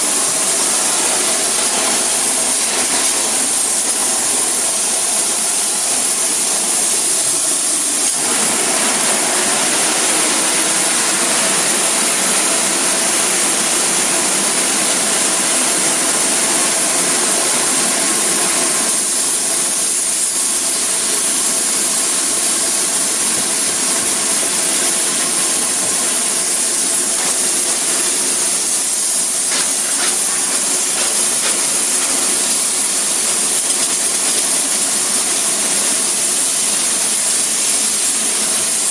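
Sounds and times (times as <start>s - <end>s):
spray foam gun hissing: 0.0s - 38.9s
steady machine hum: 0.0s - 38.9s.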